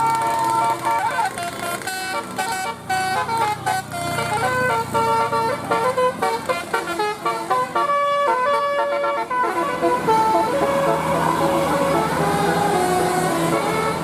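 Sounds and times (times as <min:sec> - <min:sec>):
multi-tone bus horn melody: 0:00.0 - 0:14.0.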